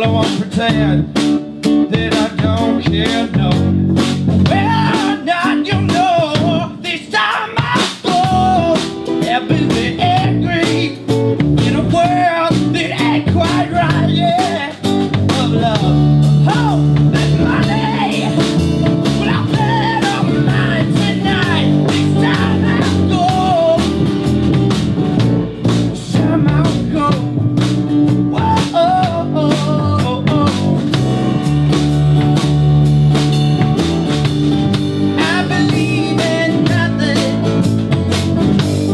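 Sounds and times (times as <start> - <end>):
live band playing blues rock: 0.0 - 38.9.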